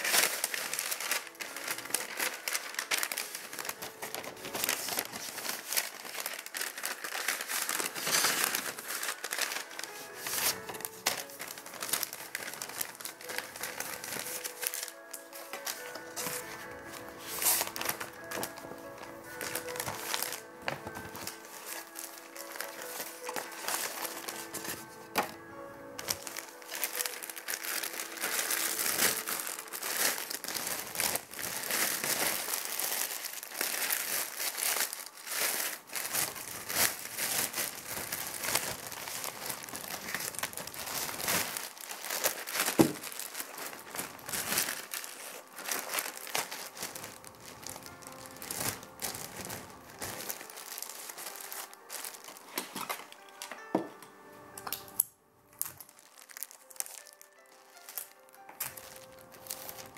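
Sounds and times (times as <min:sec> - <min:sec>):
dense crinkling and crackling: 0:00.0 - 0:53.6, 0:55.6 - 0:59.9.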